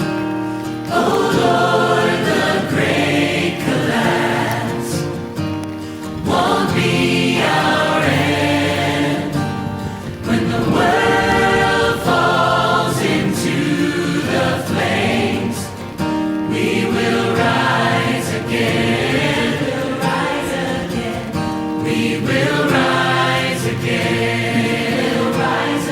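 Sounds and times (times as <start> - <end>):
choir singing held notes: 0.0 - 25.9.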